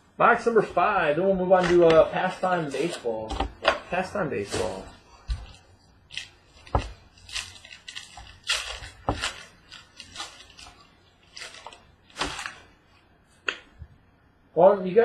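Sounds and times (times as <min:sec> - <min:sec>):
packaging rustling and crinkling: 0:00.4 - 0:12.8.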